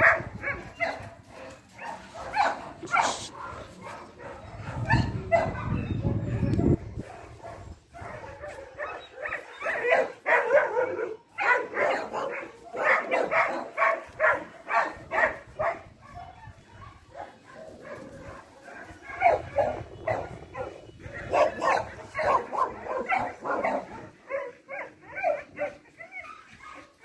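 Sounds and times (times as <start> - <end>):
dog barking: 0.0 - 27.0.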